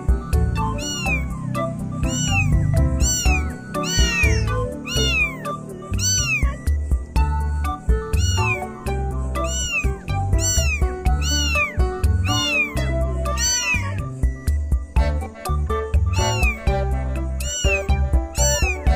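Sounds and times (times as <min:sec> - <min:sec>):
cat meowing: 0:00.0 - 0:14.2, 0:16.1 - 0:18.9
background music with bass beat: 0:00.0 - 0:18.9.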